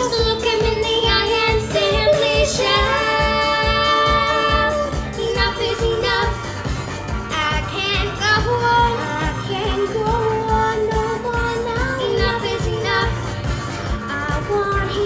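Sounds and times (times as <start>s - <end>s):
girls singing a duet: 0.0s - 6.5s, 7.3s - 13.3s, 14.1s - 15.0s
disco backing track with kick drum: 0.0s - 15.0s.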